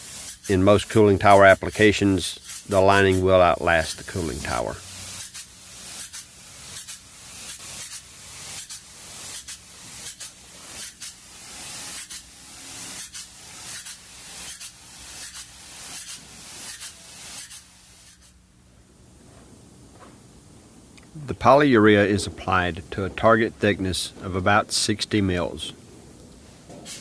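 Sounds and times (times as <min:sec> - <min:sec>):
spray gun hissing: 0:00.0 - 0:18.5, 0:21.0 - 0:25.8, 0:26.4 - 0:27.0.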